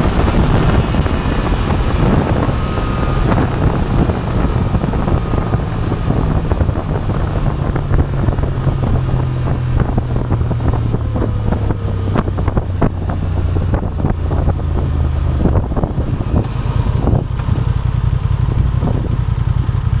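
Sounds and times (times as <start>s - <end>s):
wind buffeting microphone: 0.0s - 19.9s
motorcycle engine running: 0.0s - 20.0s.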